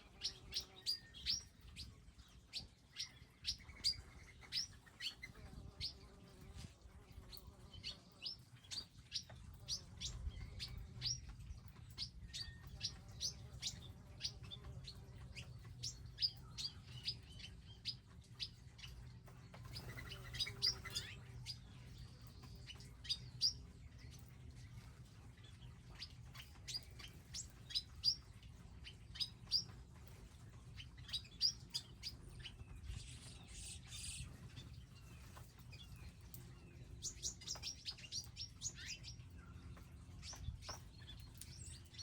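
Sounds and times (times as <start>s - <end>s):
low steady hum: 0.0s - 42.0s
small birds chirping: 0.0s - 42.0s.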